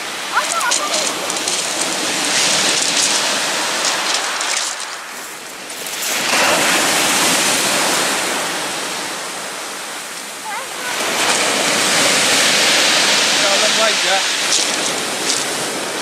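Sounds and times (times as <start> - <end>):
waves breaking on shingle: 0.0 - 9.6, 10.2 - 16.0.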